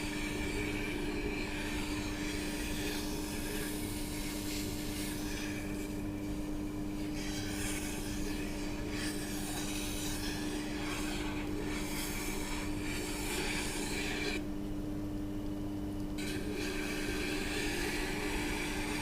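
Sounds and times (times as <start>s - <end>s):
knife blade scraping grinding wheel: 0.0s - 14.4s, 16.2s - 19.0s
grinder motor humming: 0.0s - 19.0s.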